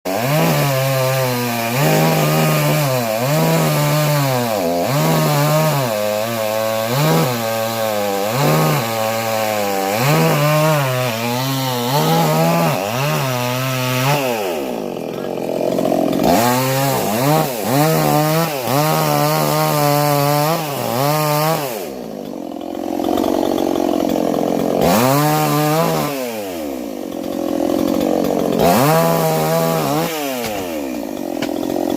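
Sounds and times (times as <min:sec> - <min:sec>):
chainsaw revving: 0:00.1 - 0:31.9.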